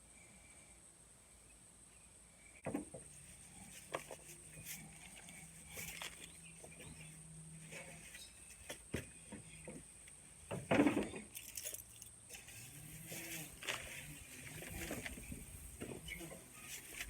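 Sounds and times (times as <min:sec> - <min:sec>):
faint steady hum: 0:00.0 - 0:17.0
scraping rustle: 0:03.0 - 0:17.0.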